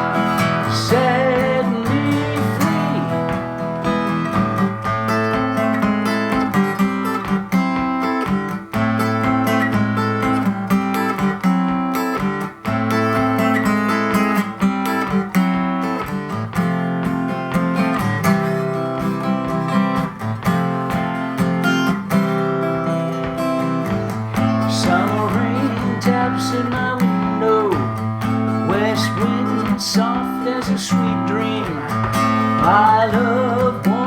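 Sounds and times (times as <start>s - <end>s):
acoustic guitar strumming chords: 0.0s - 34.0s.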